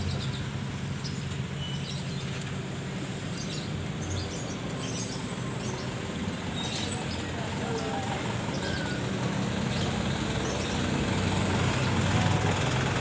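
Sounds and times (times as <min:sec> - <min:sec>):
birds chirping: 0:00.0 - 0:02.4, 0:03.0 - 0:12.3.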